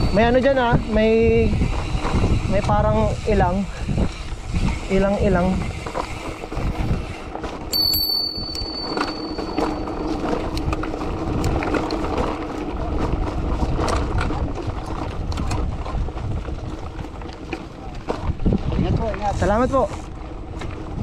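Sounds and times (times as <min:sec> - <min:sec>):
bicycle rattling over rough trail: 0:00.0 - 0:21.0.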